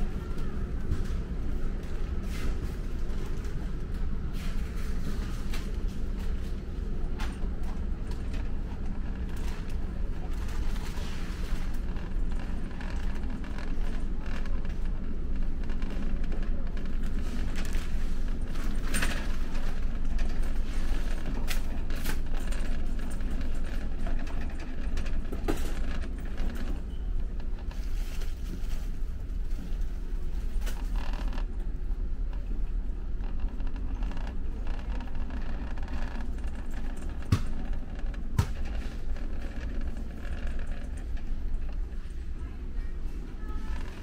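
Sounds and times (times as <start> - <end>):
low rumble and hum: 0.0 - 44.0
scattered clicks and clatters: 0.3 - 44.0.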